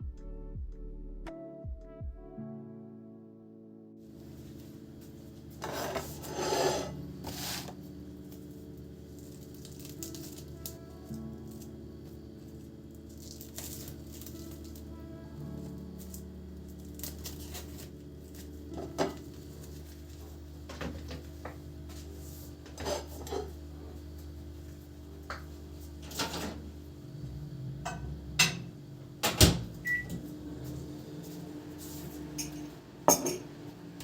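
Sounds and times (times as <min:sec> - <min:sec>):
appliance hum: 0:04.0 - 0:34.0.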